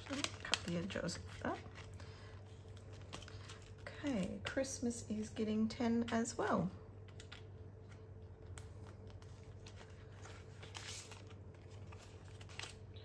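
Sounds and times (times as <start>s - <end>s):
banknotes and plastic rustling: 0.0s - 5.4s, 7.1s - 13.0s
faint steady hum: 0.0s - 13.0s.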